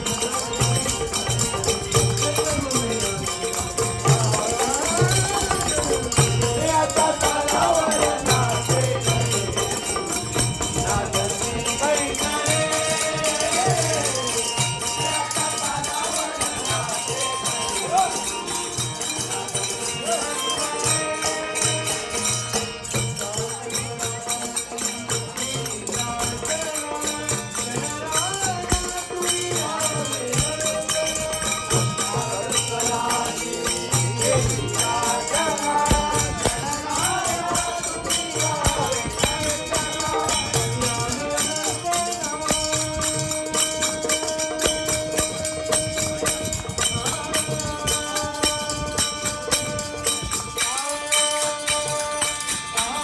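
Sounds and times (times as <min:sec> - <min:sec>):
harmonium: 0:00.0 - 0:53.0
jingling percussion rhythm: 0:00.0 - 0:53.0
man singing devotional song: 0:00.0 - 0:53.0.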